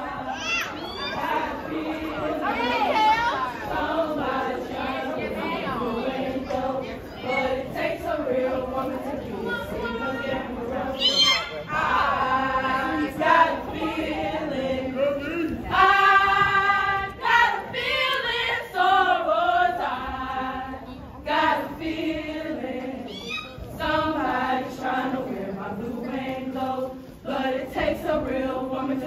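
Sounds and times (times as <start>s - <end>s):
women singing in unison: 0.0s - 29.0s.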